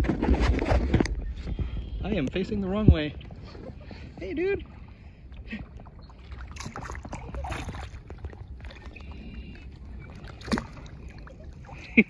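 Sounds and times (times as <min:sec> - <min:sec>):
water lapping against kayak hull: 0:00.0 - 0:12.0
wind rumble on microphone: 0:00.0 - 0:12.0.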